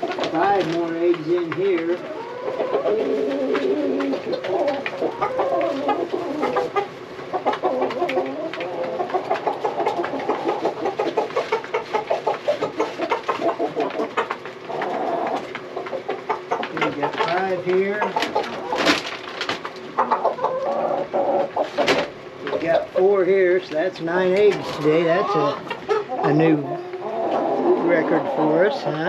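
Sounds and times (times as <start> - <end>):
hens clucking: 0.0 - 29.0.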